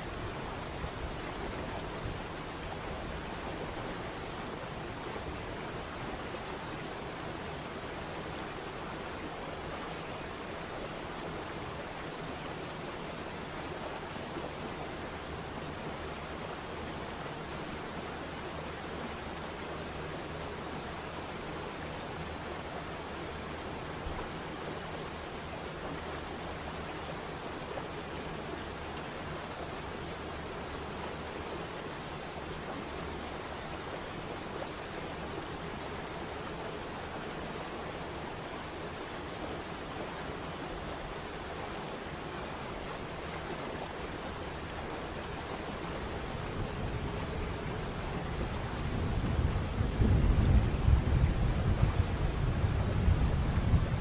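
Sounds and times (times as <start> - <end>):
waterfall and stream running: 0.0 - 49.9.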